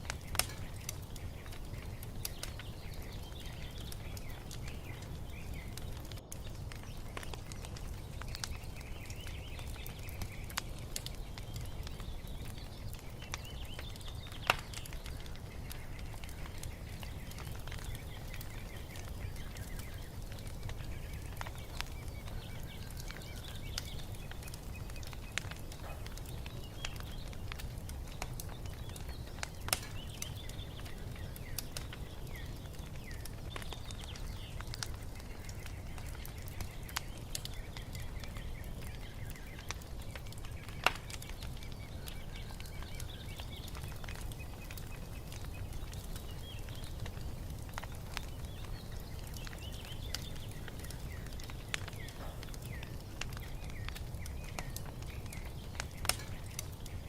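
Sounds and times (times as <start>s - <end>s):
birds chirping faintly: 0.0s - 57.0s
fire crackling and popping: 0.0s - 57.0s.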